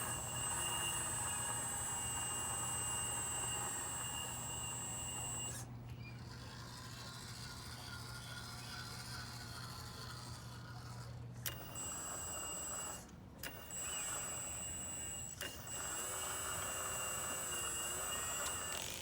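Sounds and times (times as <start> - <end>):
hydraulic pump motor whining: 0.0 - 7.3, 8.4 - 19.0.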